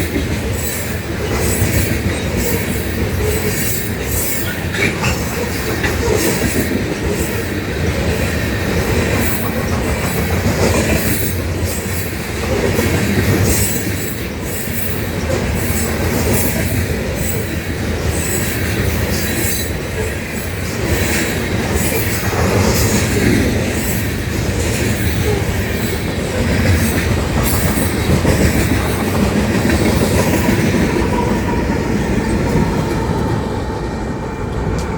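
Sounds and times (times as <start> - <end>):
train wheels clattering over rails: 0.0 - 34.9.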